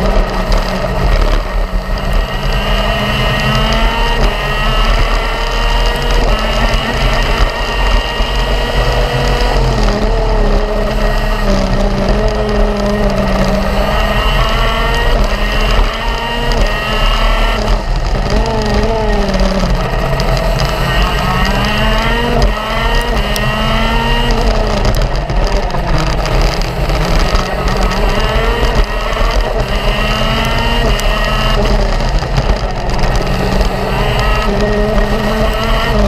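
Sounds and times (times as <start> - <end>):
low rumble of wind and vibration: 0.0 - 36.0
racing kart engine: 0.0 - 36.0.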